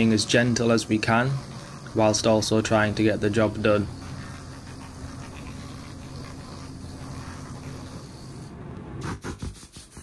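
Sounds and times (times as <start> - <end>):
pneumatic air pen buzzing: 0.0 - 10.0.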